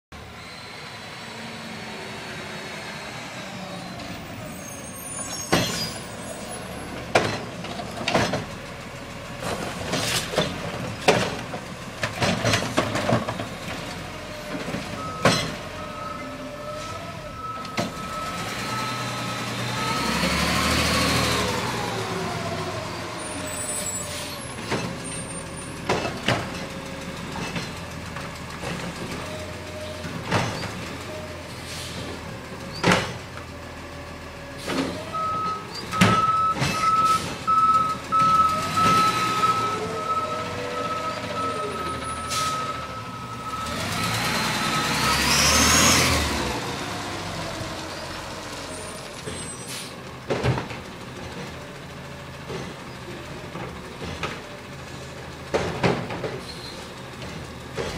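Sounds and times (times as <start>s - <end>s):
garbage truck diesel engine: 0.1s - 57.9s.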